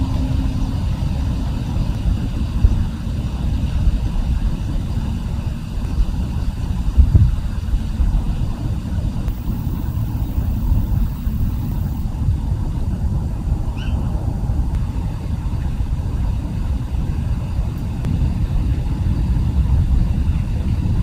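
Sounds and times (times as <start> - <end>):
low uneven rumbling: 0.0 - 21.0.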